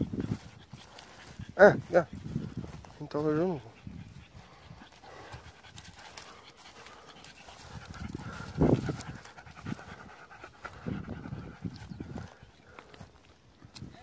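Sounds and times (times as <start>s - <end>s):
dog panting: 0.0s - 13.4s.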